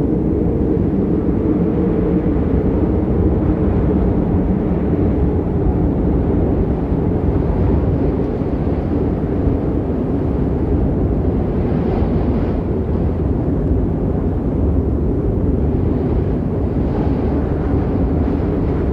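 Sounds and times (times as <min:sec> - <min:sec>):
strong wind buffeting microphone: 0:00.0 - 0:18.9.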